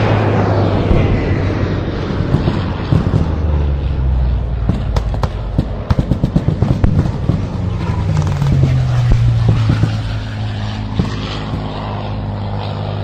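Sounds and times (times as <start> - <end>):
sharp jet crackles: 0.0 - 12.7
fighter jet flying past: 0.0 - 13.0.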